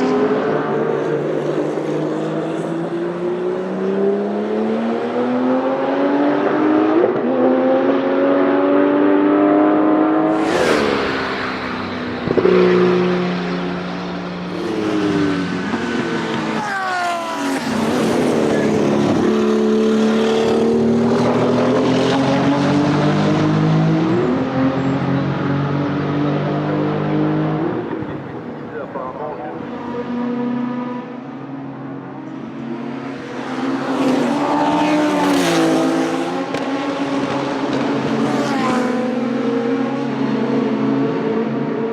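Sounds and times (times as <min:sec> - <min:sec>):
race car engine at full throttle: 0:00.0 - 0:41.9.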